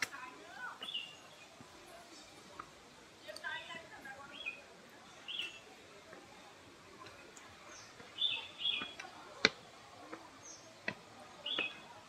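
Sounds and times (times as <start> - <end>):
birds chirping: 0.0 - 2.4, 3.5 - 12.0.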